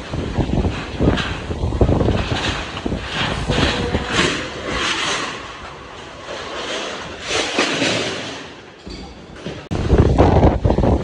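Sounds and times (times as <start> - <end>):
wind rumble on microphone: 0.0 - 7.6, 8.9 - 11.0
heavy rain: 0.0 - 8.8, 9.6 - 11.0
gusting wind: 0.0 - 11.0.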